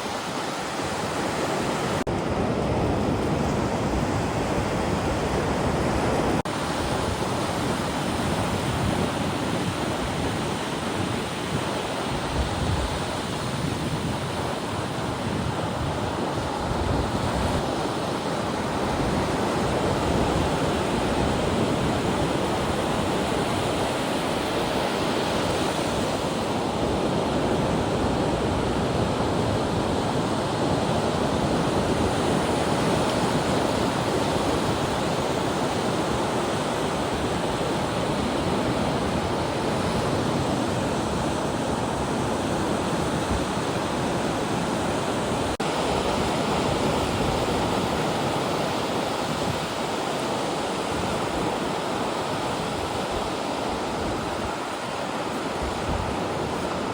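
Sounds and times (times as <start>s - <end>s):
ocean waves breaking on beach: 0.0s - 56.9s
wind buffeting microphone: 0.0s - 56.9s.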